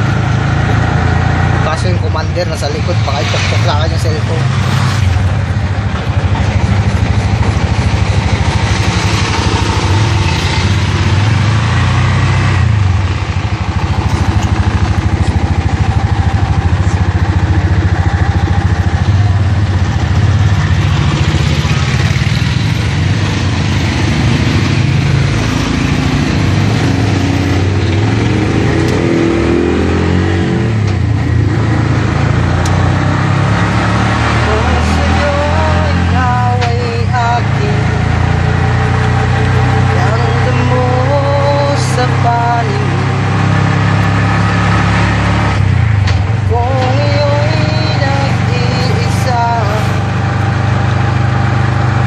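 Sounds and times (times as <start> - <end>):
three-wheeler engine running: 0.0 - 52.0.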